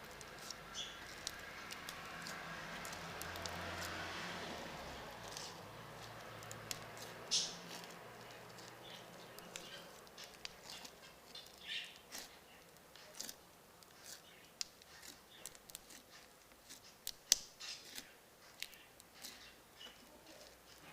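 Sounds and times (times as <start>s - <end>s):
sticky pops and crackles: 0.0s - 20.9s.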